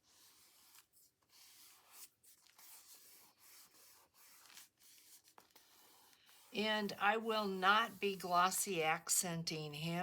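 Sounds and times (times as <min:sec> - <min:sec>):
paper rubbing and rustling: 0:00.0 - 0:08.4.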